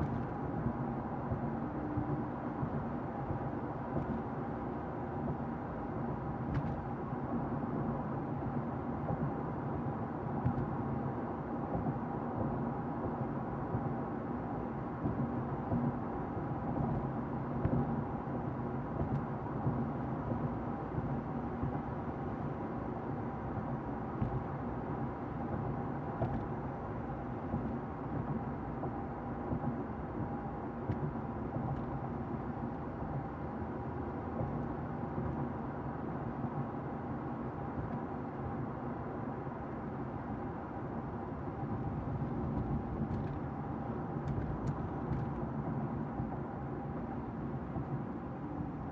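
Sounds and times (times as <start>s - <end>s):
engine and road noise in car: 0.0s - 48.9s.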